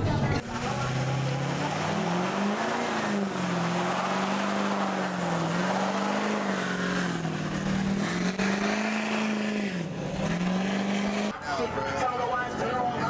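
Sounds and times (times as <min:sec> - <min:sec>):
truck engine at high revs: 0:00.0 - 0:11.4.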